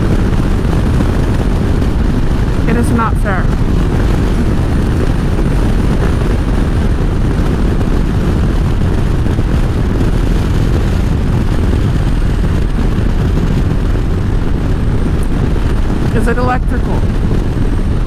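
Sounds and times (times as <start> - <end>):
motorcycle engine cruising: 0.0 - 18.0
wind rushing over microphone: 0.0 - 18.0.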